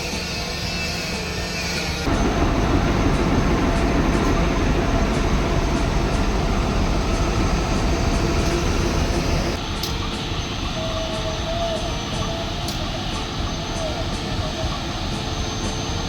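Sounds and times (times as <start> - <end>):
train rumbling on rails: 2.1 - 16.0.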